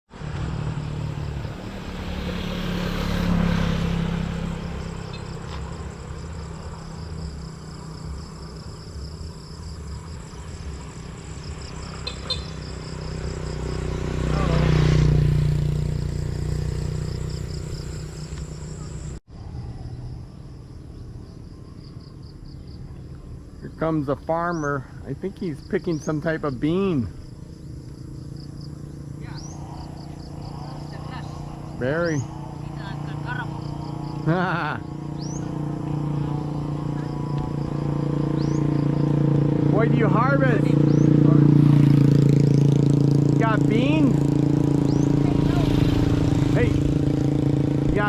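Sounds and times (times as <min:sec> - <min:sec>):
vehicles passing: 0:00.1 - 0:48.0.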